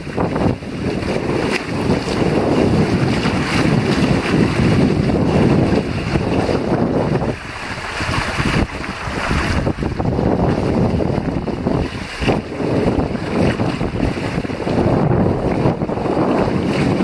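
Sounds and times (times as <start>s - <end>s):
water splashing along boat hull: 0.0s - 17.0s
wind buffeting microphone: 0.0s - 17.0s.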